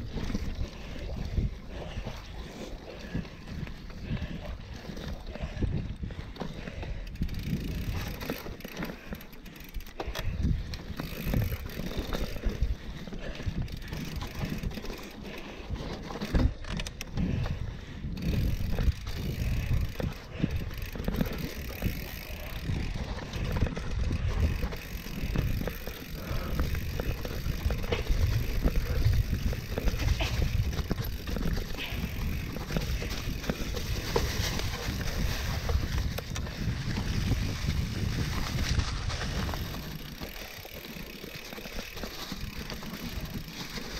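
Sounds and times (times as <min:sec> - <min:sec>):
bike tyres rumbling on dirt: 0:00.0 - 0:43.9
bike clattering over bumps: 0:02.9 - 0:43.9.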